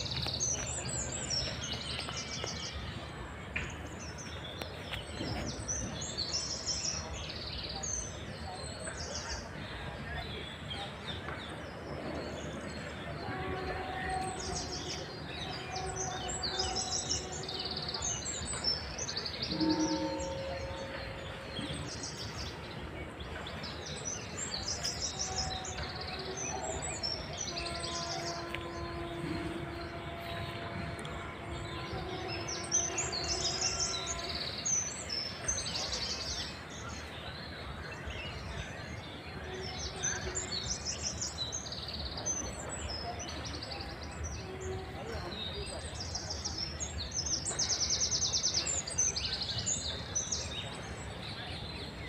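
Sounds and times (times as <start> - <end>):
birds chirping and trilling: 0.0 - 52.0
steady outdoor background noise: 0.0 - 52.0.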